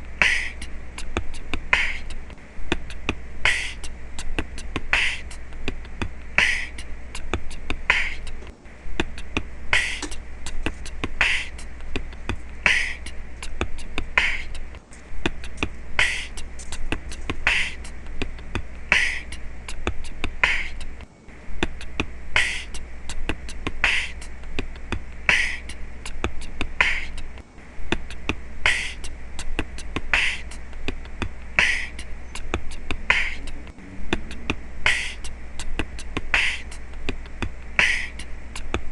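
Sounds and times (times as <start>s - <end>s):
background music with percussive beat: 0.2s - 5.8s, 6.4s - 8.5s, 9.1s - 14.7s, 15.3s - 21.0s, 25.3s - 27.3s, 28.0s - 31.0s, 31.6s - 38.9s.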